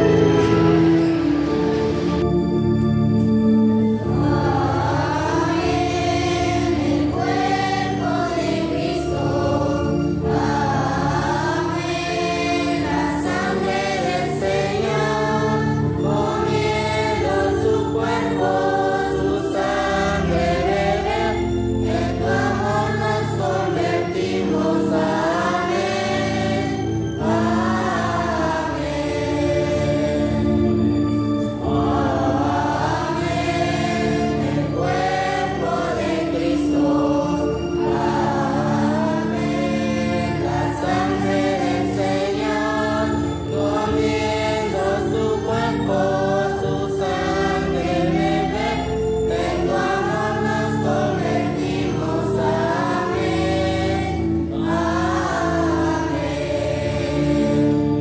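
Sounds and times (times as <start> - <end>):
children's choir singing: 0.0 - 58.0
instrumental accompaniment: 0.0 - 58.0.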